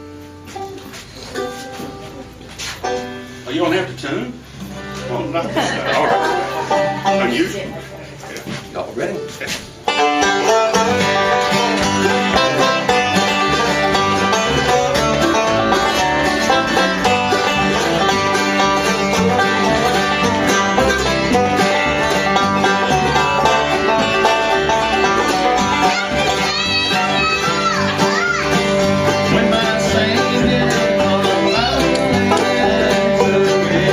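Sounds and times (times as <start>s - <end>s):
banjo picking: 0.0s - 33.9s
bass: 0.0s - 33.9s
bluegrass band playing: 0.0s - 33.9s
guitar picking: 0.0s - 33.9s.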